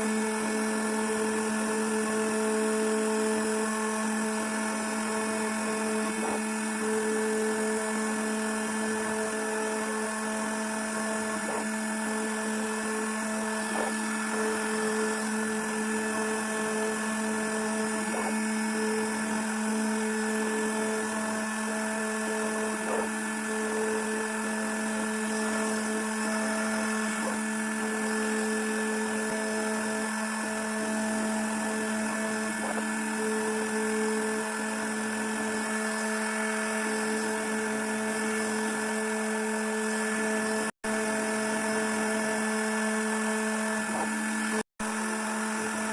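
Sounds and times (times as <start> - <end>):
router spindle whine: 0.0 - 45.9.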